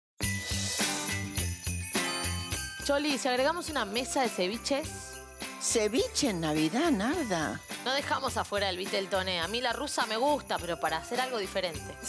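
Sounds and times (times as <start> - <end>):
christmas-style music: 0.2 - 12.0
sleigh bells jingling: 0.2 - 12.0.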